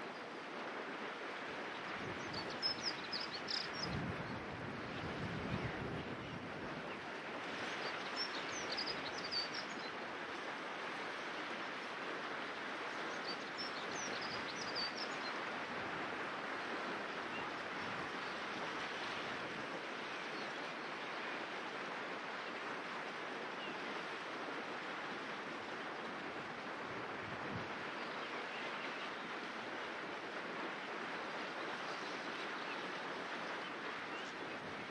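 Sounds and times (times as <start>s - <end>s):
river flowing over stones: 6.9s - 34.9s.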